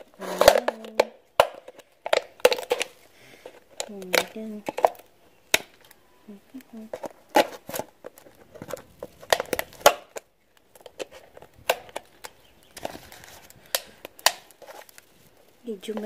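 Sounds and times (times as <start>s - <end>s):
plastic bottle crackling and crinkling: 0.0s - 16.0s.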